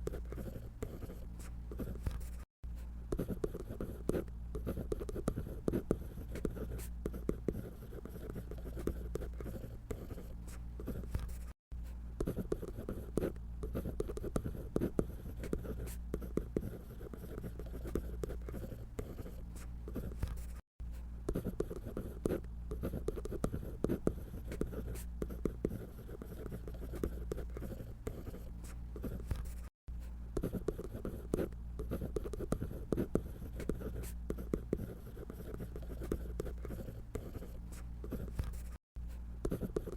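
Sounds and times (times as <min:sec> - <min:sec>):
pencil scratching on paper: 0:00.0 - 0:20.6, 0:21.3 - 0:29.7, 0:30.4 - 0:38.8, 0:39.4 - 0:39.9.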